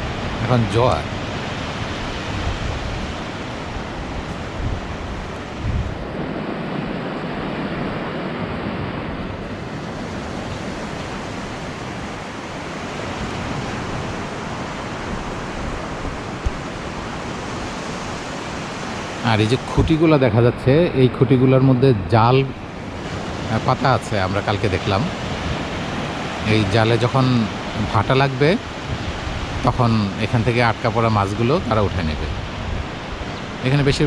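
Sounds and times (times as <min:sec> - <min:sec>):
surf breaking on beach: 0:00.0 - 0:20.3, 0:22.1 - 0:34.0
wind buffeting microphone: 0:00.0 - 0:34.0.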